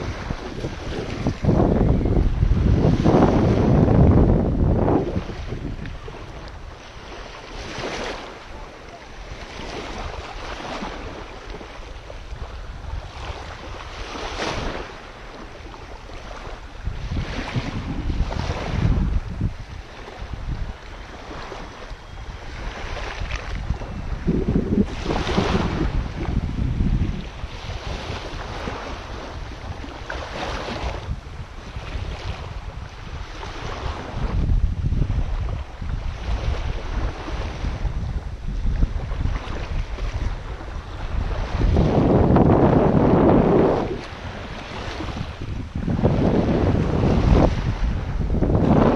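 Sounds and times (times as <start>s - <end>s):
small waves lapping on shore: 0.0s - 48.9s
wind rumbling on microphone: 0.0s - 48.9s.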